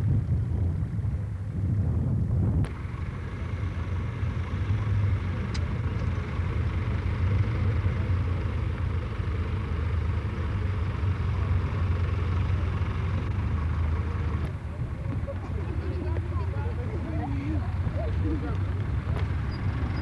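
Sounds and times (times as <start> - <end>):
tractor engine rumbling: 0.0 - 20.0.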